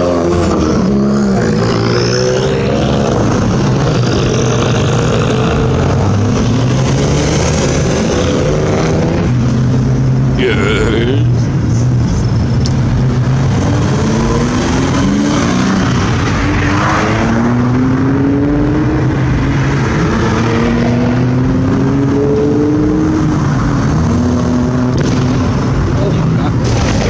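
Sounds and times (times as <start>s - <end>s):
cars accelerating away: 0.0s - 11.7s, 12.5s - 27.0s.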